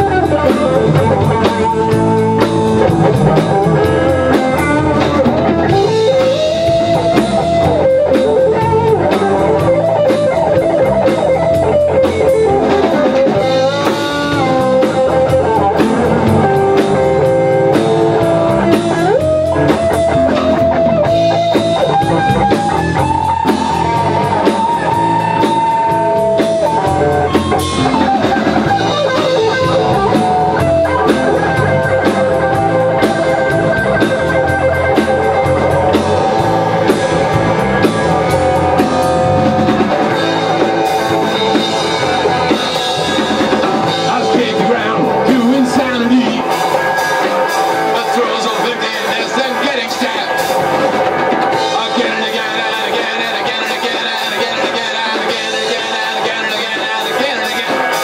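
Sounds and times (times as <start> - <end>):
bending lead guitar notes: 0.0 - 58.0
drum kit beat: 0.0 - 58.0
electric guitars: 0.0 - 58.0.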